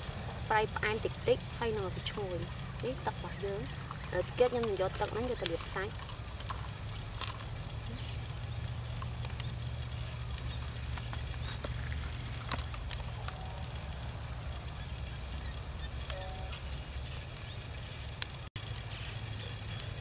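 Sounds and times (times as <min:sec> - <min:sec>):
charcoal fire crackling: 0:00.0 - 0:20.0
low rumble: 0:00.0 - 0:20.0.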